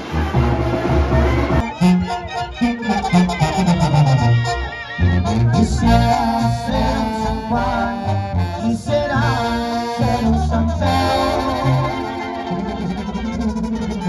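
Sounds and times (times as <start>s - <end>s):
brass band playing: 0.0s - 14.0s
pulsing tuba bass line: 0.0s - 14.0s.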